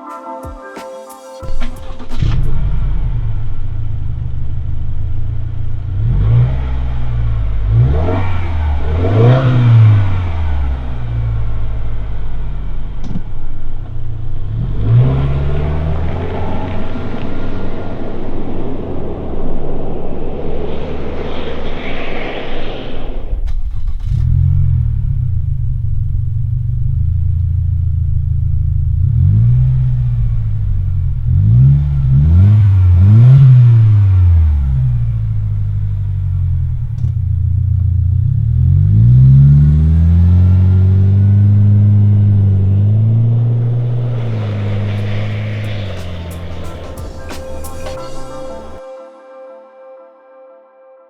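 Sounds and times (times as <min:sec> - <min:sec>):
car engine revving: 0:01.5 - 0:48.8.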